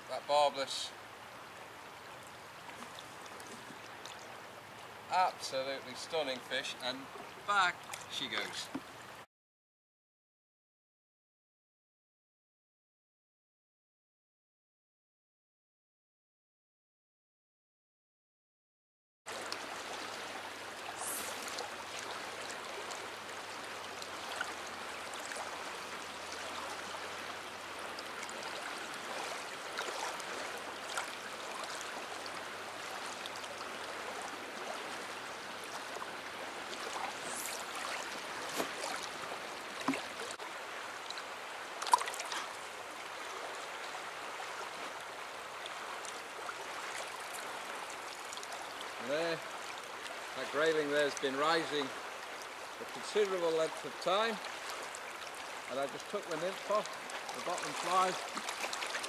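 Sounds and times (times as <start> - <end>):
river water rushing over riffle: 0.0 - 9.2, 19.3 - 59.0.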